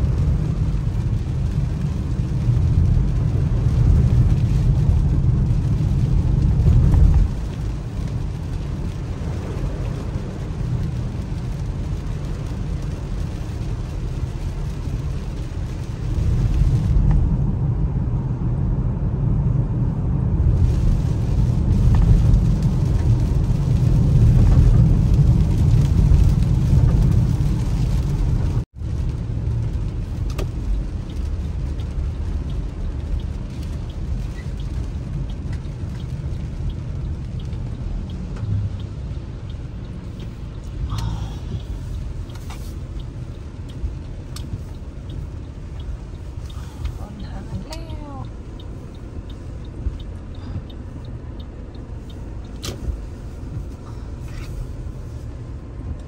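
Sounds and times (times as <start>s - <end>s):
tyres and engine rumble: 0.0s - 56.0s.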